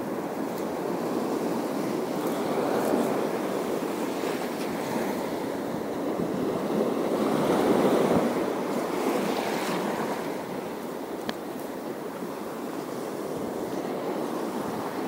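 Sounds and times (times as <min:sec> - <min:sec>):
sea waves washing: 0:00.0 - 0:15.0.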